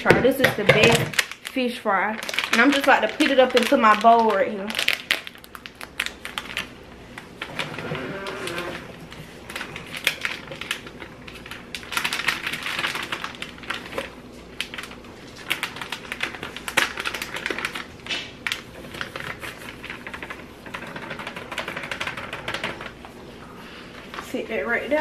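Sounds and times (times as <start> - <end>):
plastic bag crinkling: 0.0 - 24.9.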